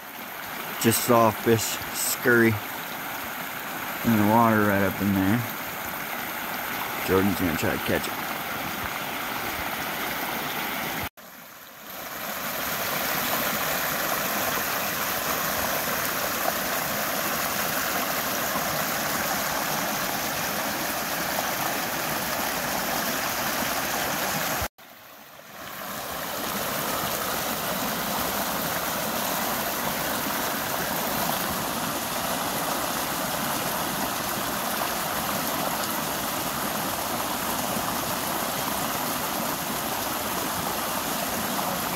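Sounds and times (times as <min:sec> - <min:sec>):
creek rushing over a log: 0:00.0 - 0:41.9.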